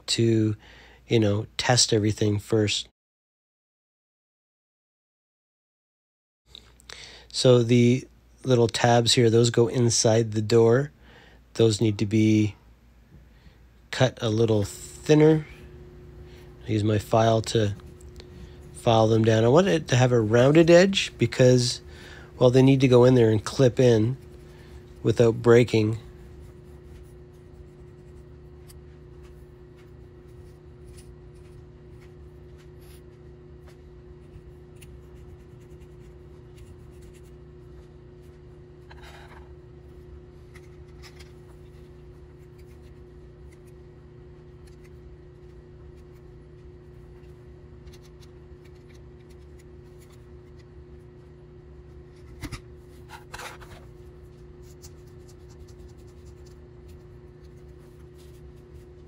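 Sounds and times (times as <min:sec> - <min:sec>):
steady low hum: 0:06.5 - 0:59.0.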